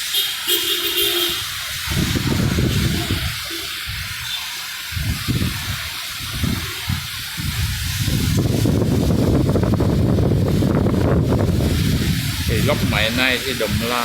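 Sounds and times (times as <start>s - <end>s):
rain hissing: 0.0s - 14.0s
wind buffeting microphone: 1.4s - 14.0s.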